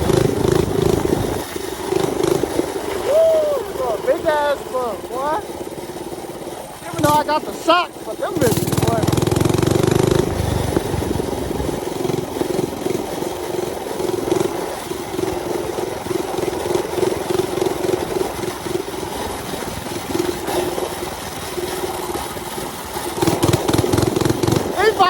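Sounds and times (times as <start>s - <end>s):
mini bike engine droning: 0.0s - 25.0s.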